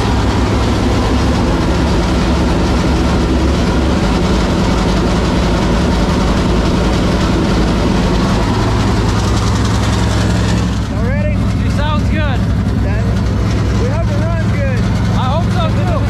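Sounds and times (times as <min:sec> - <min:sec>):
race car engine running loud: 0:00.0 - 0:16.0.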